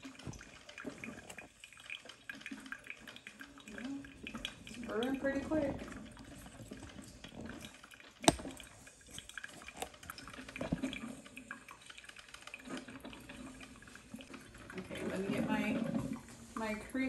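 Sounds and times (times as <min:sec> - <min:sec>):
coffee maker gurgling and dripping: 0:00.0 - 0:17.0.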